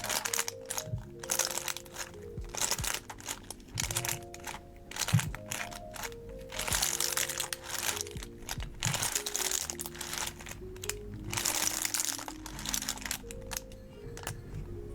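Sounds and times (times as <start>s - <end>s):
background music with simple melody: 0.0s - 14.9s
slime squishing and crackling: 0.0s - 14.9s.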